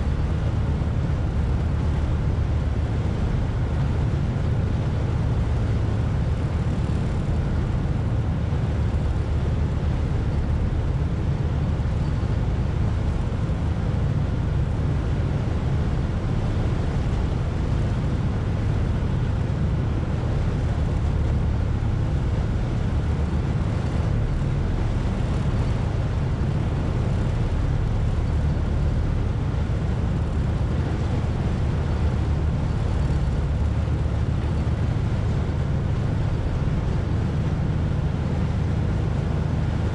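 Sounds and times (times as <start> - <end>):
ferry engine droning: 0.0 - 39.9
water noise: 0.0 - 39.9.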